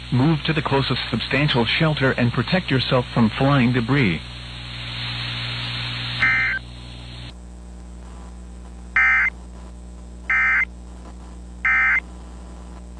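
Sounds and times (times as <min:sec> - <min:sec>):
radio background hiss: 0:00.0 - 0:12.9.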